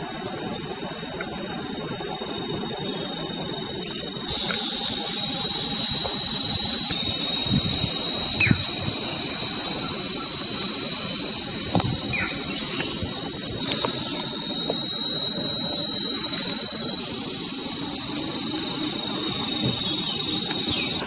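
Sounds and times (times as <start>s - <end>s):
high-pitched whine: 0.0s - 21.0s
hiss: 0.0s - 21.0s.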